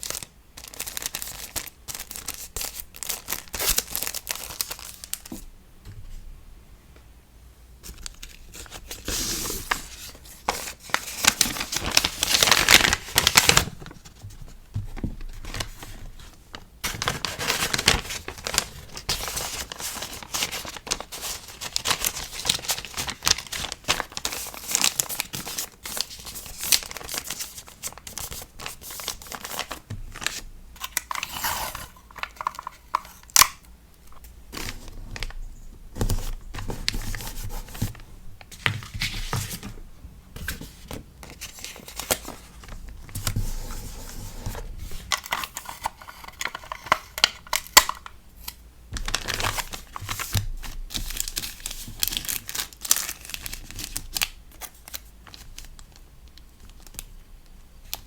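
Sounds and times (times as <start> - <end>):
packaging crinkling and rustling: 0.0 - 5.5, 7.8 - 58.0.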